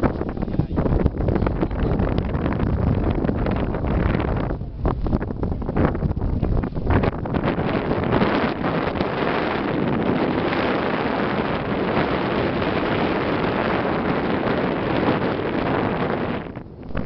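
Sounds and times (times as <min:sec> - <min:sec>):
boat noise: 0:00.0 - 0:17.0
wind on microphone: 0:00.0 - 0:17.0.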